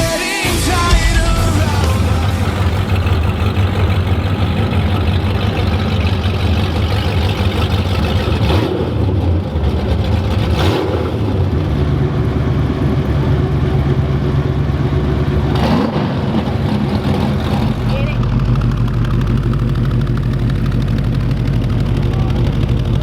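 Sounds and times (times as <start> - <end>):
drag car engine running: 0.6 - 23.0.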